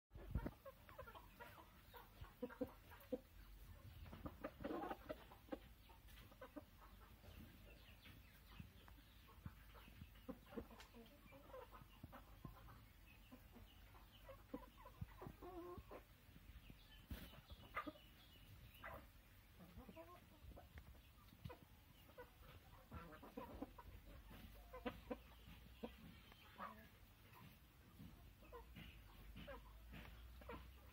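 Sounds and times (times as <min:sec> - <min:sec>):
chickens clucking: 0:00.1 - 0:30.9.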